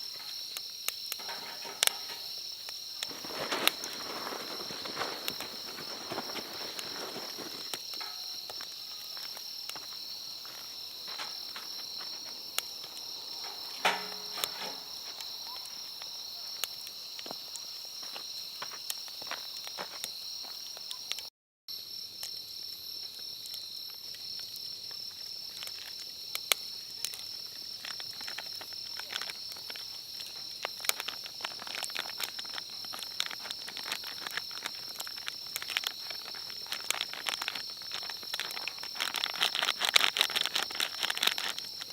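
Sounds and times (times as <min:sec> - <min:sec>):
small clicks and ticks: 0:00.0 - 0:21.3, 0:23.1 - 0:41.9
crickets trilling: 0:00.0 - 0:41.9.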